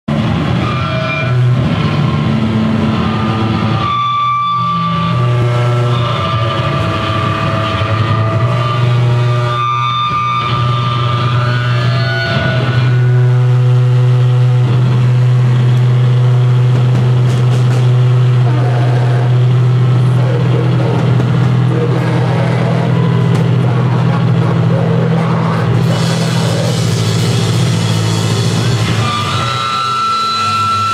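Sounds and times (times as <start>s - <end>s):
distorted amplifier drone with feedback: 0.1s - 30.9s.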